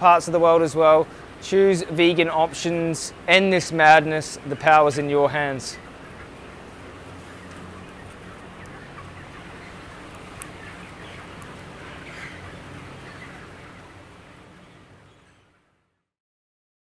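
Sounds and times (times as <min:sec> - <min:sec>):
chickens clucking and peeping: 0:00.0 - 0:15.9.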